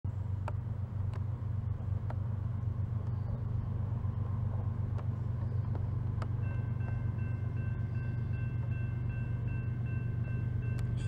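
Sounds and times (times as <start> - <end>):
diesel locomotives rumbling: 0.1 - 11.0.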